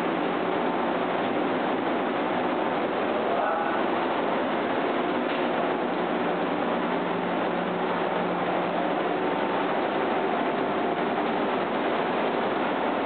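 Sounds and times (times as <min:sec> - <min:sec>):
faint constant hum: 0:00.0 - 0:13.0
machine running: 0:00.0 - 0:13.0.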